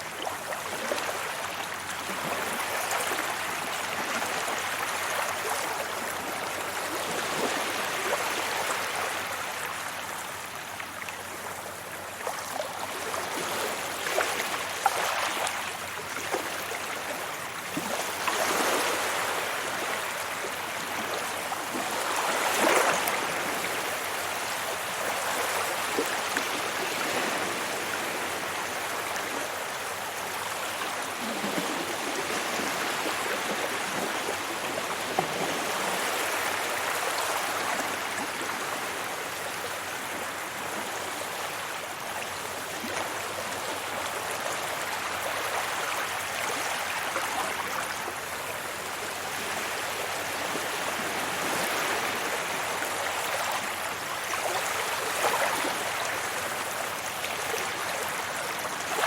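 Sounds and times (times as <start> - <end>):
waves washing onto beach: 0.0 - 59.0.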